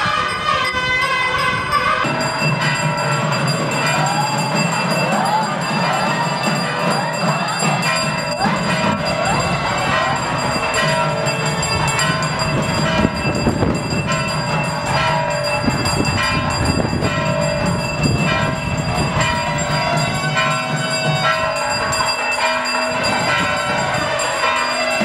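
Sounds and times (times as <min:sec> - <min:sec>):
wind instruments holding long notes: 0:00.0 - 0:25.0.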